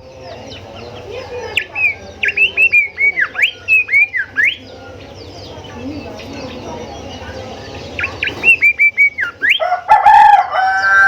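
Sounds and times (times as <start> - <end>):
background bird calls: 0.0 - 11.0.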